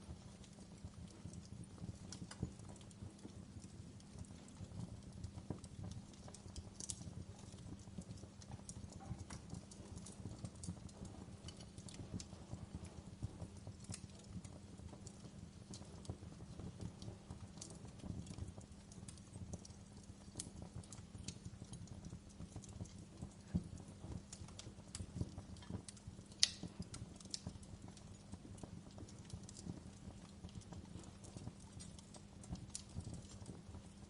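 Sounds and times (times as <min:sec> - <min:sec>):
log fire crackling and popping: 0:00.0 - 0:34.0.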